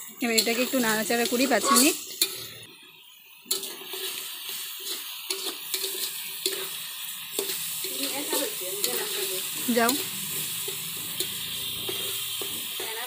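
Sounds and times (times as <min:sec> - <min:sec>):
metal spatula scraping pan: 0:00.0 - 0:02.7, 0:03.5 - 0:13.0
vegetables sizzling in hot oil: 0:00.0 - 0:13.0
spatula clinking on metal: 0:00.2 - 0:02.5, 0:03.5 - 0:13.0.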